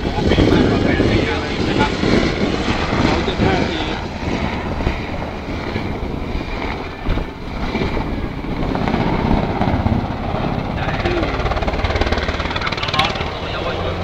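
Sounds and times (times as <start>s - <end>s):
helicopter rotor and engines: 0.0s - 14.0s.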